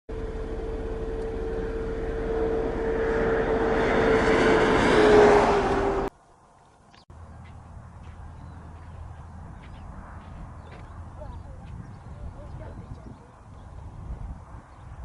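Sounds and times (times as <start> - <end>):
vehicle approaching: 0.1 - 15.0.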